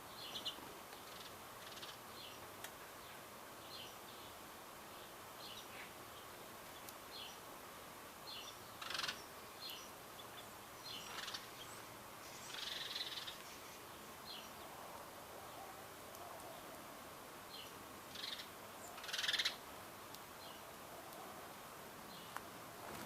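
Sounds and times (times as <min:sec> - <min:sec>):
birds chirping: 0:00.0 - 0:07.6, 0:08.2 - 0:16.8, 0:17.4 - 0:19.7, 0:22.0 - 0:22.5.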